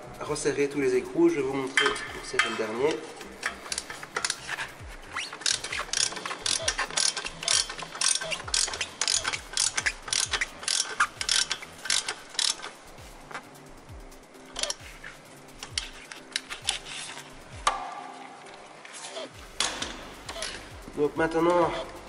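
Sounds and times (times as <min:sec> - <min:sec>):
ratchet wrench clicking: 0:00.5 - 0:17.6, 0:19.6 - 0:22.0.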